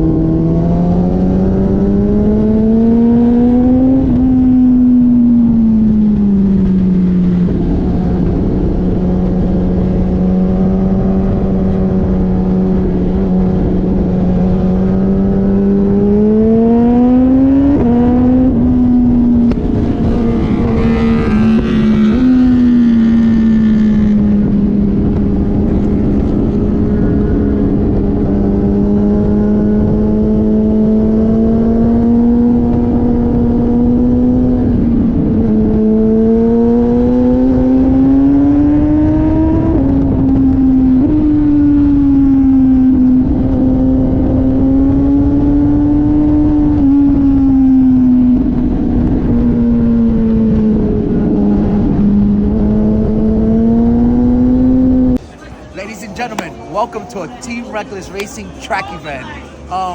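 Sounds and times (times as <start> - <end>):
motorcycle engine racing: 0.0 - 59.9.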